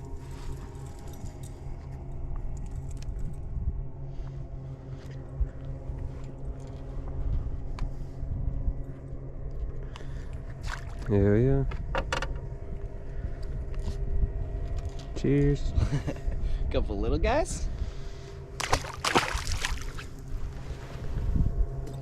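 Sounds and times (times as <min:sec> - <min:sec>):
boat motor humming: 0:00.0 - 0:16.7, 0:17.6 - 0:22.0.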